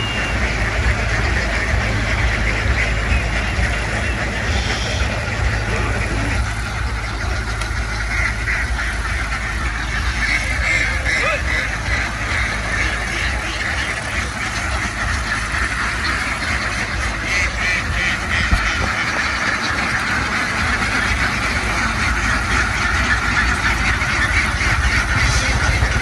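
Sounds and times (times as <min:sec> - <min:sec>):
ducks quacking: 0:00.0 - 0:26.0
steady low rumble: 0:00.0 - 0:26.0.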